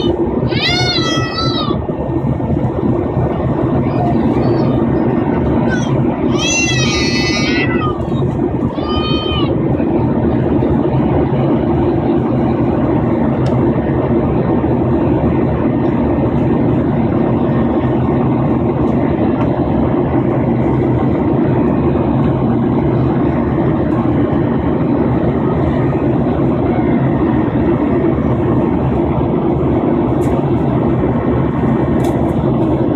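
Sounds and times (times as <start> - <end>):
jet engine cabin noise: 0.0 - 32.9.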